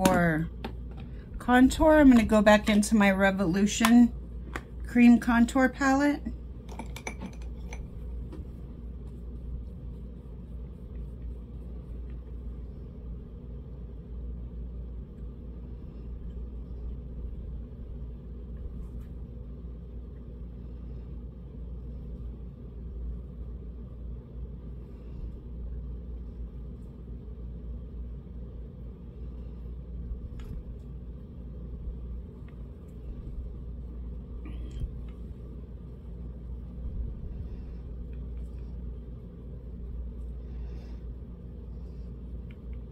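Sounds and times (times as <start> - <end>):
steady low rumble: 0.0 - 42.9.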